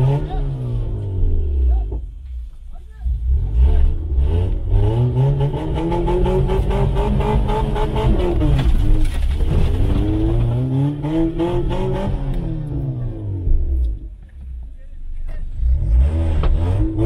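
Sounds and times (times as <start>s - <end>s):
off-road engine revving: 0.0s - 2.0s, 3.0s - 14.1s, 15.2s - 17.0s.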